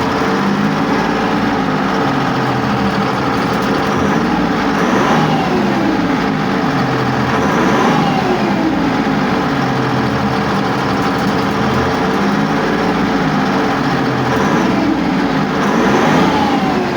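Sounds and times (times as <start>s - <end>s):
diesel engine running loudly: 0.0s - 16.9s.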